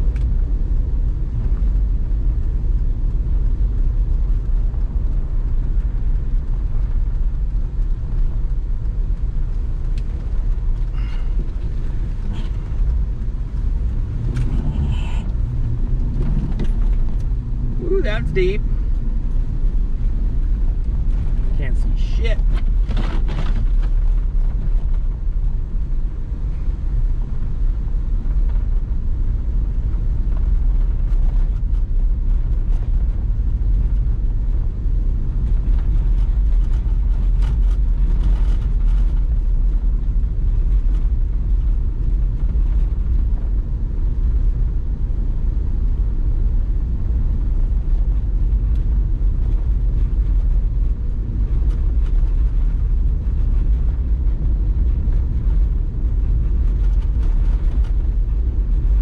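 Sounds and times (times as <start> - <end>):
engine rumble: 0.0 - 59.0.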